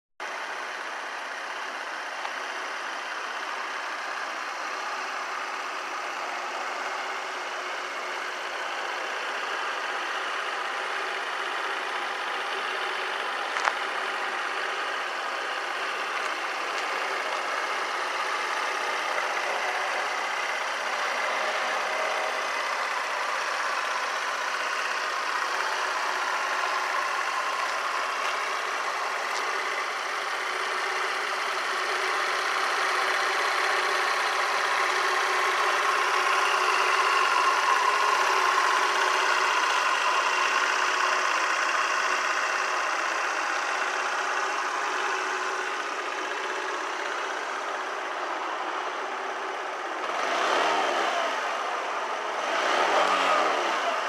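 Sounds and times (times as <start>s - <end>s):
scooter engine idling: 0.2s - 54.0s.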